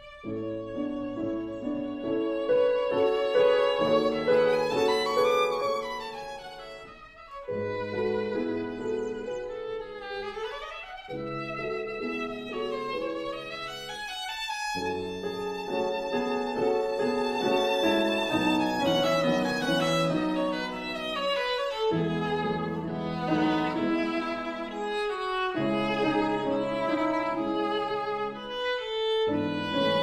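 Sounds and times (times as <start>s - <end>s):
violin melody: 0.0s - 30.0s.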